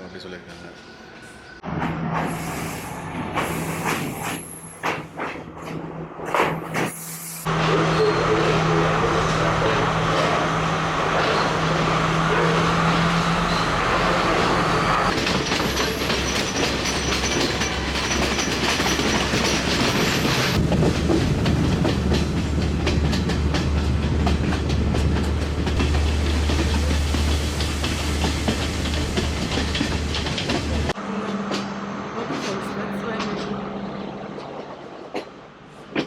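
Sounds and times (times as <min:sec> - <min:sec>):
train wheels clattering on track: 0:01.7 - 0:33.6, 0:34.4 - 0:36.0.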